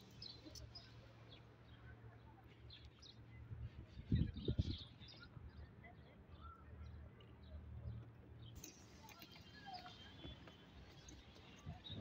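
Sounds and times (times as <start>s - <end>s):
small birds chirping: 0.0s - 3.4s, 4.1s - 12.0s.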